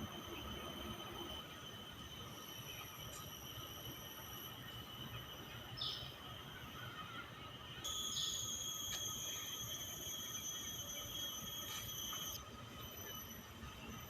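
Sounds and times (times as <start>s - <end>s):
insects buzzing drone: 0.0s - 14.0s.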